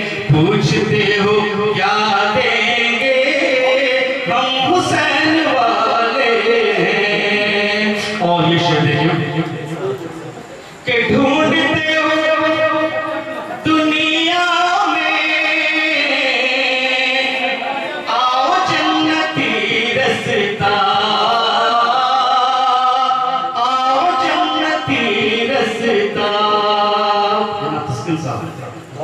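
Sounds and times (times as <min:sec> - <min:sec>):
man chanting verse: 0:00.0 - 0:29.0.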